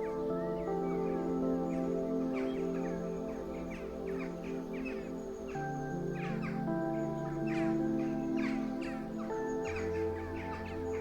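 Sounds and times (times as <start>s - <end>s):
bird chirps: 0.0s - 11.0s
soft ambient music: 0.0s - 11.0s.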